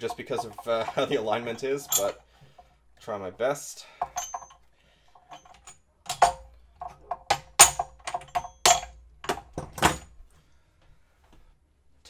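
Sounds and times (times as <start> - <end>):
metal clicks and knocks: 0.0 - 4.6, 5.2 - 10.2.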